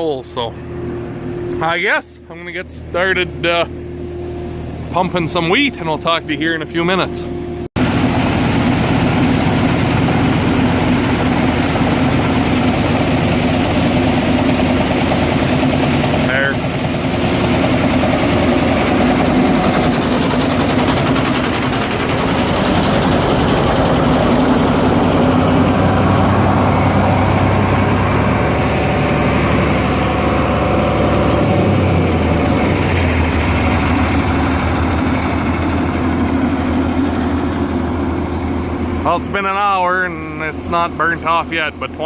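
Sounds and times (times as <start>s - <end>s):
heavy engine running: 0.0s - 42.0s.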